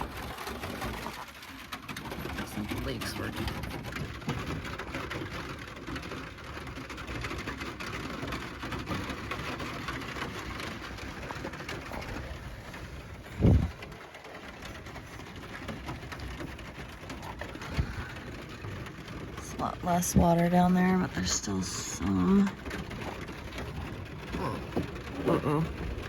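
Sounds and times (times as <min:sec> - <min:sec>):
rain on a truck roof: 0:00.0 - 0:26.0.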